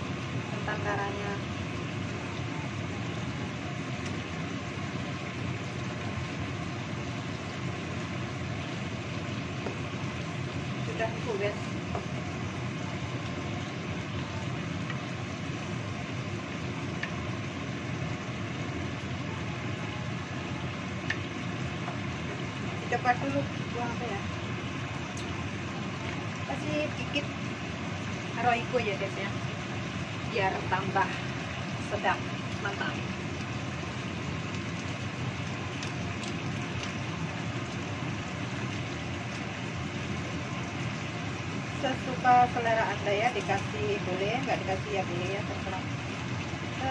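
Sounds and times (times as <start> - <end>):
gas flame and bubbling sauce: 0.0 - 46.9.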